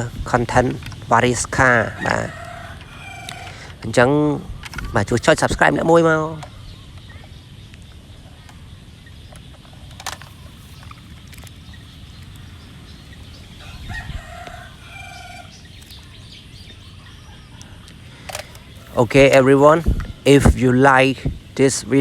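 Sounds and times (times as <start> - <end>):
chicken calling: 0.0 - 7.4, 10.3 - 21.1.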